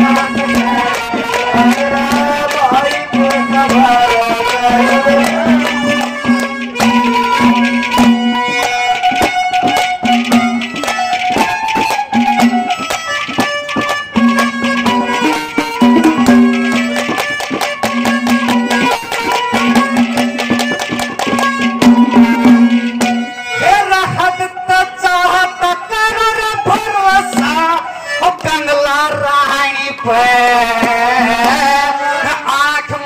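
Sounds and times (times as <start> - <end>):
hand drum beats: 0.0 - 33.0.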